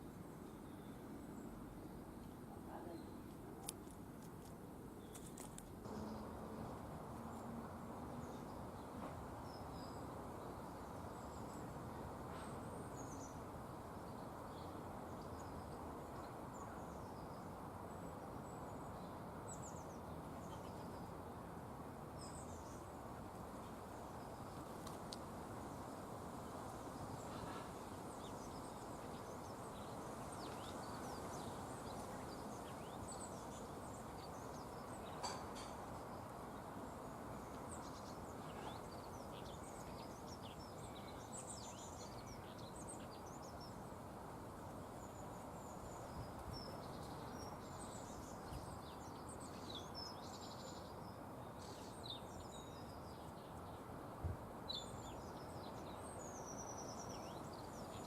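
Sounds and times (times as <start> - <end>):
small birds chirping: 0.1 - 54.0, 54.6 - 58.0.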